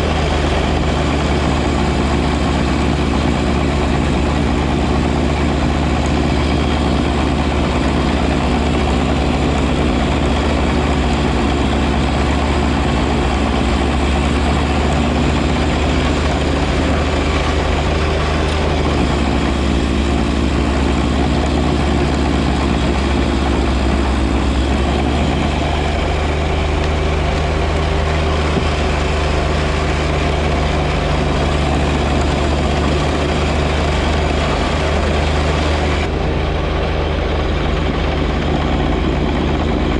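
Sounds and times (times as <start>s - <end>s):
constant rushing noise: 0.0s - 39.9s
tractor diesel engine running: 0.0s - 39.9s.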